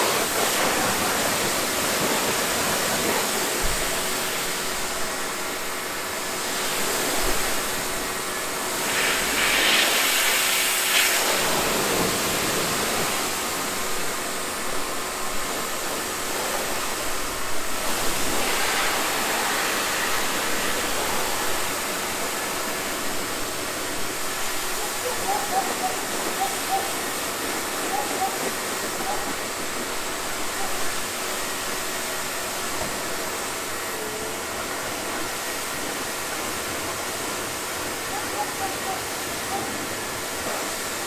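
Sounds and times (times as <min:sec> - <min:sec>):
pressure washer water spraying: 0:00.0 - 0:41.0.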